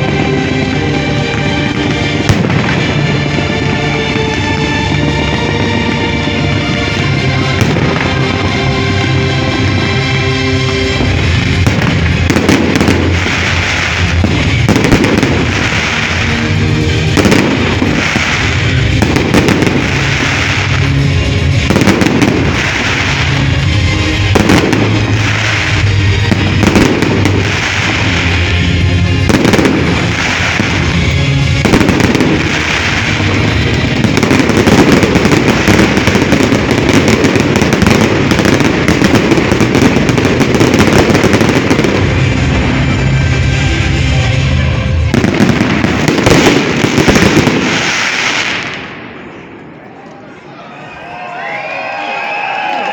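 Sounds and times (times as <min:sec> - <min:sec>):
loud music: 0:00.0 - 0:48.9
fireworks bangs and crackles: 0:00.0 - 0:50.0.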